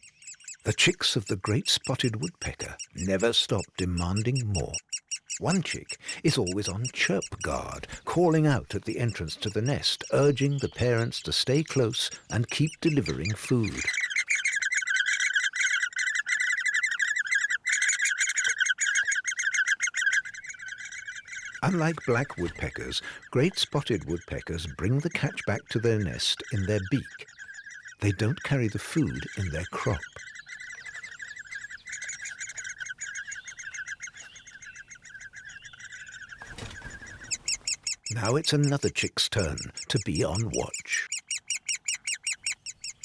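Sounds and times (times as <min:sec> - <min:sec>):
woodpecker nestlings chittering: 0:00.0 - 0:43.0.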